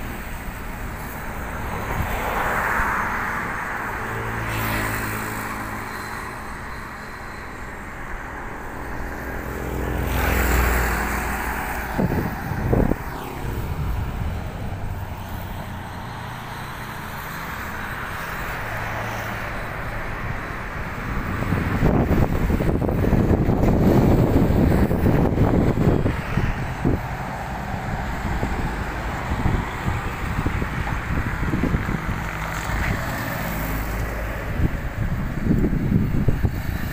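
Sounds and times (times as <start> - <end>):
rush of passing traffic: 0.0 - 36.9
vehicle engine humming: 0.0 - 36.9
vehicle passing: 1.3 - 6.9, 8.1 - 36.9.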